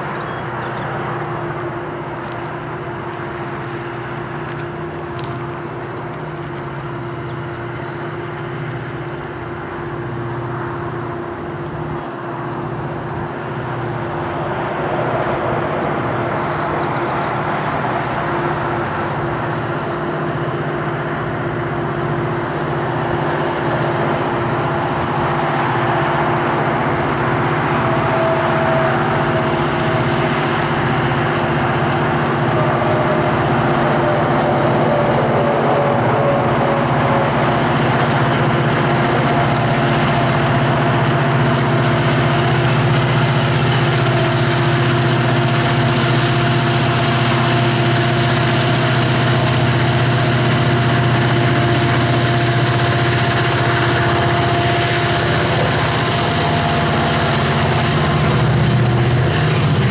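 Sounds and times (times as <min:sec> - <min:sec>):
diesel locomotives droning: 0:00.0 - 0:59.9
faint whine: 0:00.0 - 0:59.9.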